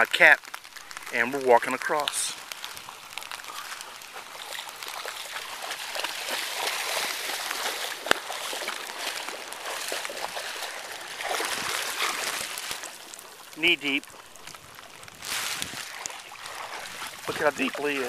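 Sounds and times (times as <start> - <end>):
wading through water splashing: 0.4 - 18.0.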